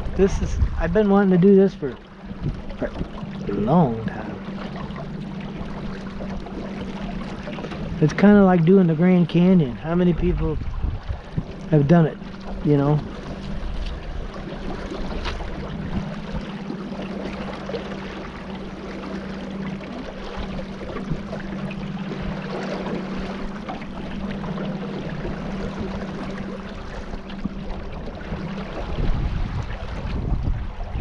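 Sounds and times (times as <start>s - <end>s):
boat motor droning: 0.0s - 31.0s
rushing water: 0.0s - 31.0s
wind: 0.0s - 31.0s.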